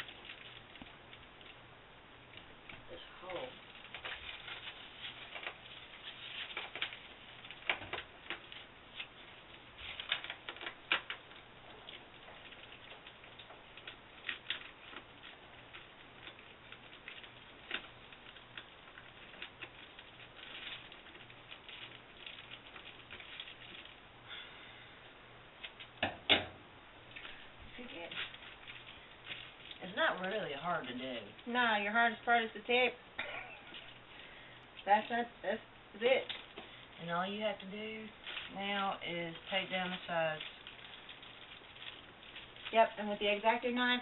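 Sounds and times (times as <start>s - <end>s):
foil crinkling and rustling: 0.0s - 24.5s, 25.6s - 26.0s, 27.0s - 44.0s.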